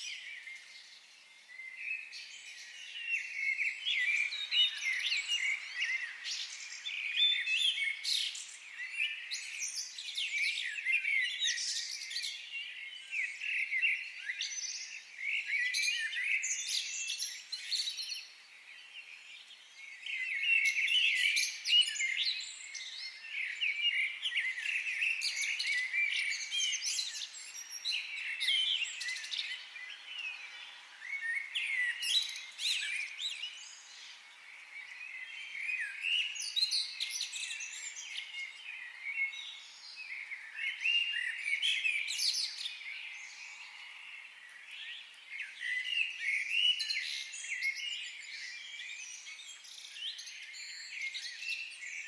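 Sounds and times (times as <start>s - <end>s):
birds chirping and singing: 0.0s - 52.0s.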